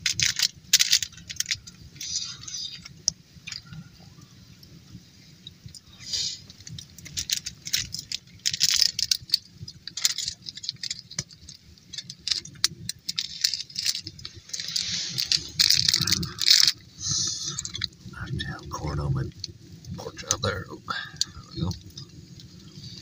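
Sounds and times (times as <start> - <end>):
aluminium foil crinkling: 0.0 - 3.8, 5.7 - 23.0.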